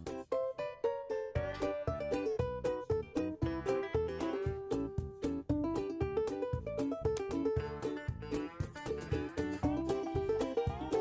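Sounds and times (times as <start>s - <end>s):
bouncy plucked guitar music: 0.0s - 11.0s.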